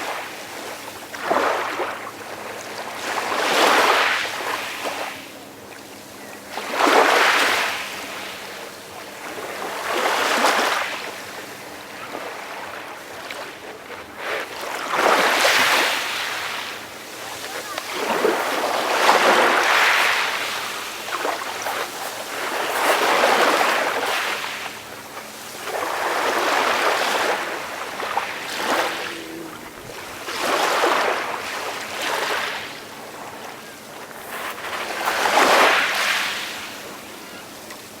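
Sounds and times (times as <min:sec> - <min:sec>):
calm sea waves washing in: 0:00.0 - 0:38.0.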